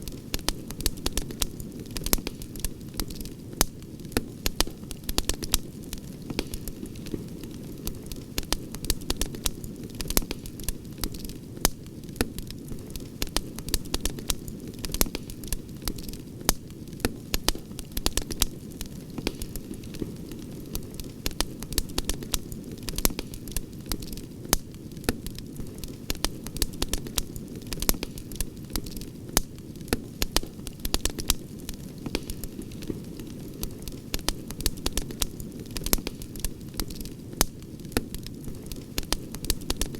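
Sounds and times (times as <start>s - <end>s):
campfire crackling and popping: 0.0s - 39.9s
low rumble of burning: 0.0s - 39.9s.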